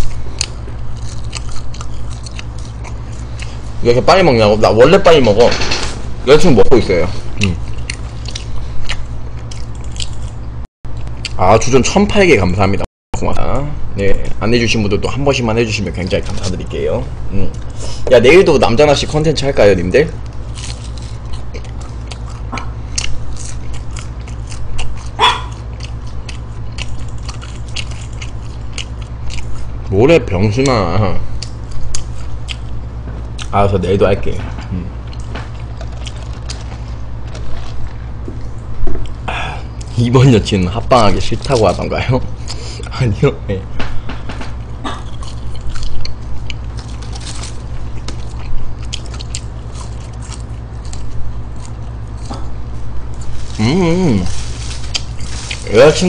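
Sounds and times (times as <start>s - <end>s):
chewing crunchy food: 0.0s - 5.3s, 6.4s - 11.7s, 15.8s - 56.0s
steady low hum: 0.0s - 56.0s.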